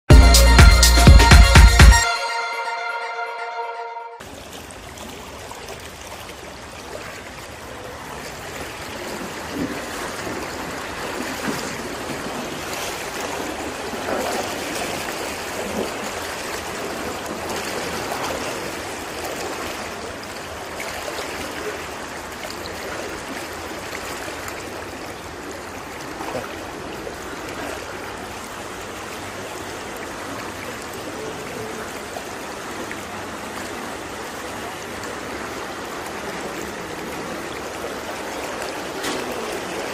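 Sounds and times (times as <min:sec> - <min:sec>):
floodwater rushing along a street: 0:04.2 - 0:39.9.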